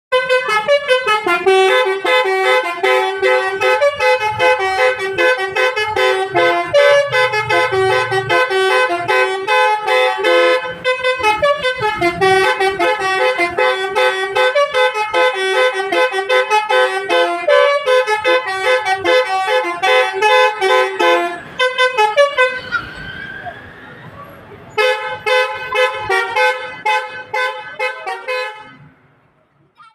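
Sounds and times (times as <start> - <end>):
multi-tone bus horn melody: 0.1 - 23.0, 24.7 - 29.1.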